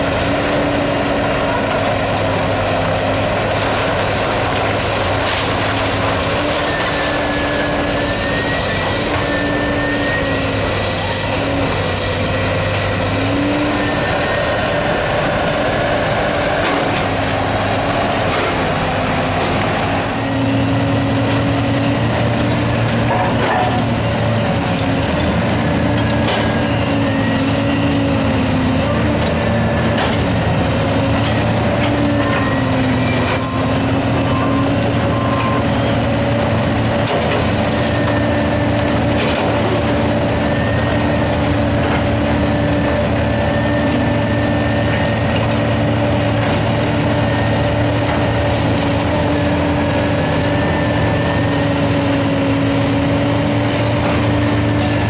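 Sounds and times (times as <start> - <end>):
diesel engine running: 0.0 - 55.0
hydraulics whining: 0.0 - 55.0.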